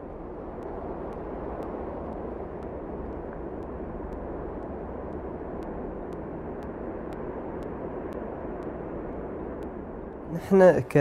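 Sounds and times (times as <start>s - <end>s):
steady rushing noise: 0.0s - 11.0s
faint high ticks: 0.5s - 8.8s, 9.5s - 10.3s.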